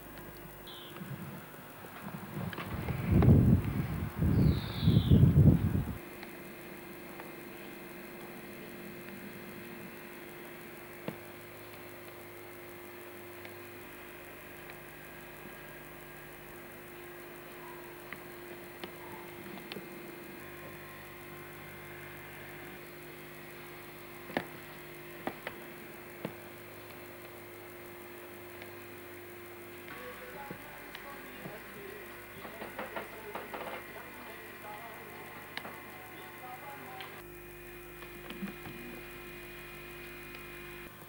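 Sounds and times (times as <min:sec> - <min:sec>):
electrical hum with tape hiss: 0:00.0 - 0:41.0.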